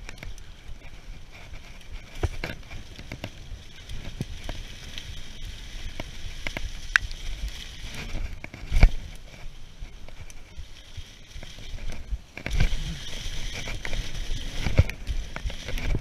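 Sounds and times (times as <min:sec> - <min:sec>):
bike rattling over bumps: 0:00.0 - 0:16.0
bike tyres on wet leaves and dirt: 0:00.0 - 0:16.0
wind rumble on camera: 0:00.0 - 0:16.0.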